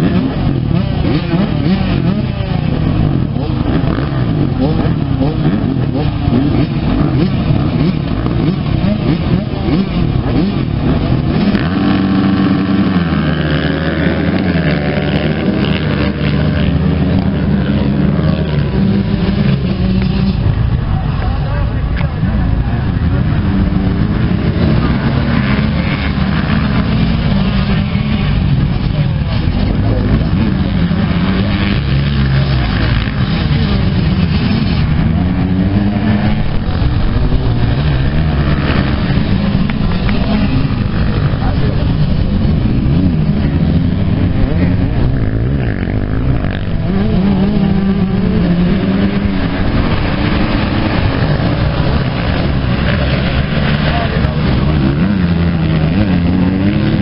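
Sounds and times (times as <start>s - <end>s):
motocross bikes revving and accelerating: 0.0s - 57.0s.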